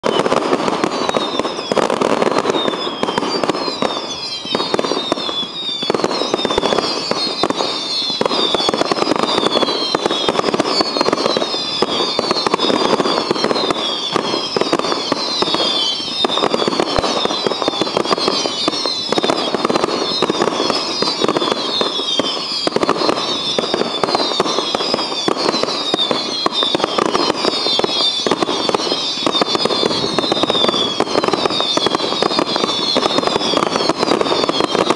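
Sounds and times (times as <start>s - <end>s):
falling whistles: 0.0s - 34.9s
fireworks bangs and crackling: 0.0s - 34.9s.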